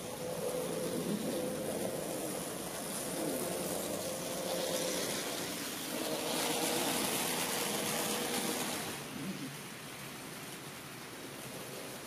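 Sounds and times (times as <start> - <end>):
model train wheels rolling: 0.0 - 12.0.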